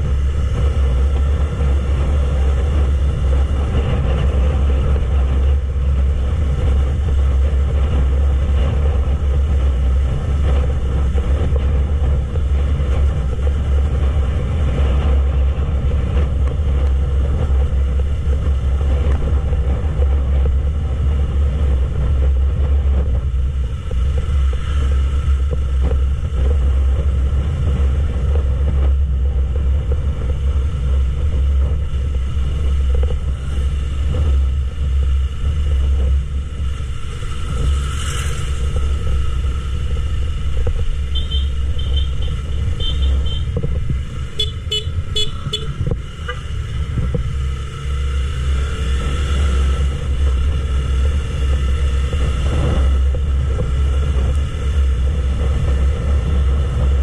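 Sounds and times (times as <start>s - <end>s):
motorcycle engine: 0.0s - 57.0s
wind rumble on microphone: 0.0s - 57.0s.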